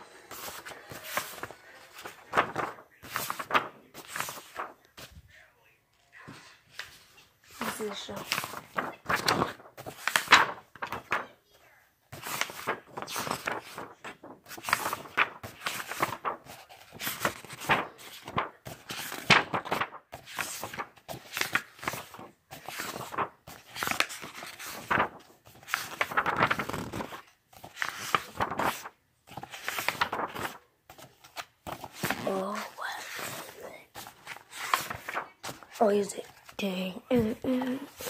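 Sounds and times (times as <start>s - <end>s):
book pages flipping: 0.0s - 38.0s.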